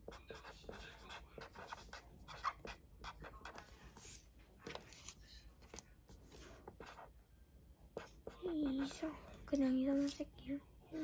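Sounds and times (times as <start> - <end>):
marker pen scratching paper: 0.0 - 7.2, 7.9 - 10.3.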